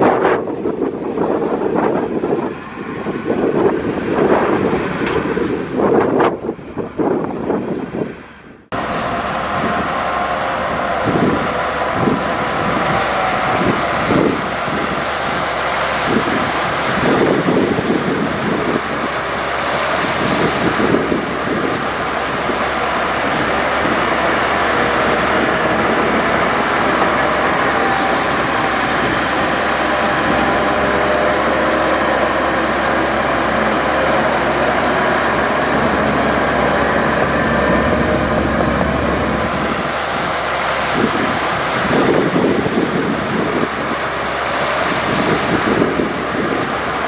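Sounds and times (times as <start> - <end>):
heavy machinery diesel engine running: 0.0 - 47.0
wind buffeting microphone: 0.0 - 47.0.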